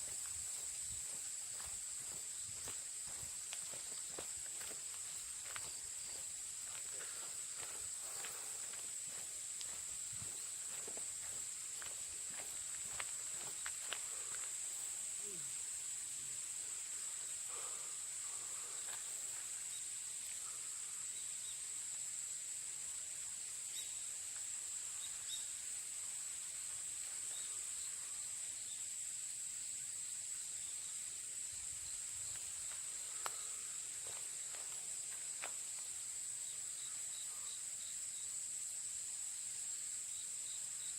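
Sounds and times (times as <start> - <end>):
crickets chirping shrilly: 0.0 - 40.9.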